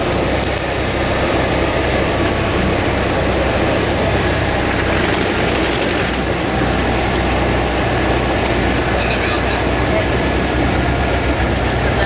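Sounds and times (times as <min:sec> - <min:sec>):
propeller plane engine in cabin: 0:00.0 - 0:12.0.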